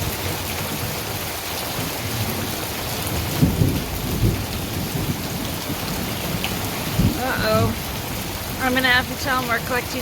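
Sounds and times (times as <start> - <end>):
heavy rain falling: 0.0 - 10.0
thunder rumble: 0.0 - 10.0.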